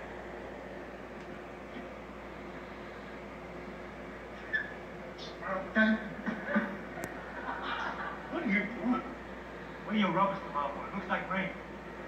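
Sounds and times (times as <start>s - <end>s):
tv static hiss: 0.0s - 12.0s.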